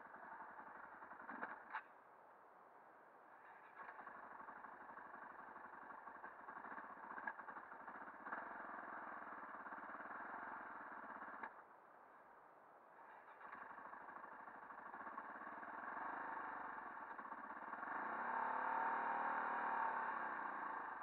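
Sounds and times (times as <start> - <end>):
motorcycle engine running at low revs: 0.0 - 1.9, 3.3 - 11.8, 13.0 - 21.0.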